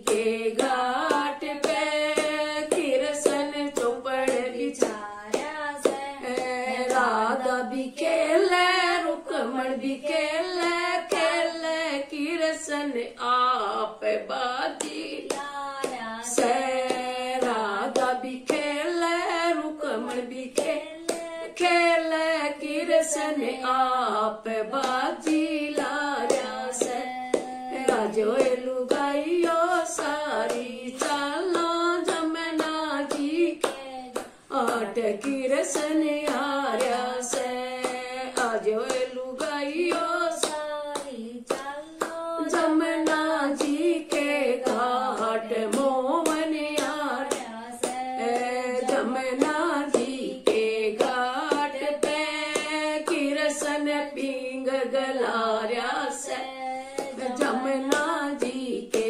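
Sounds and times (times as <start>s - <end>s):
hand clapping: 0.0s - 9.1s, 10.4s - 12.8s, 13.6s - 22.4s, 24.7s - 59.0s
woman singing unaccompanied: 0.0s - 59.0s.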